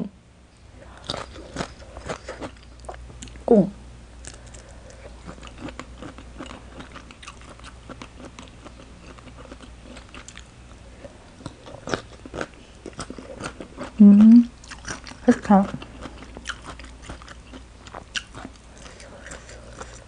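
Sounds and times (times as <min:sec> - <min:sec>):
chewing crunchy salad: 0:00.9 - 0:03.5, 0:04.2 - 0:20.0.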